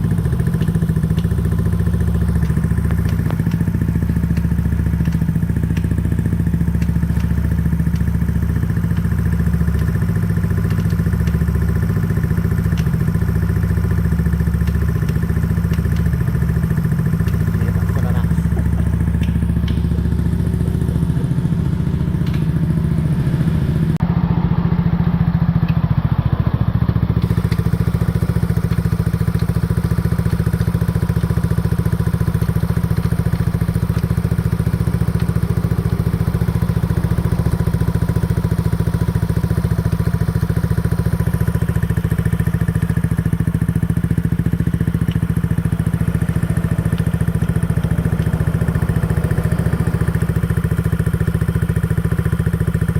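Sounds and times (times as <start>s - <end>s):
scooter engine running: 0.0s - 52.9s.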